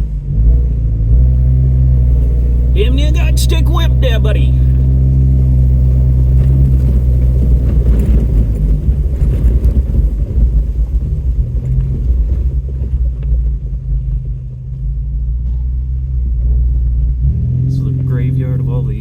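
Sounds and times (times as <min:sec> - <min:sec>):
vehicle engine low drone: 0:00.0 - 0:19.0.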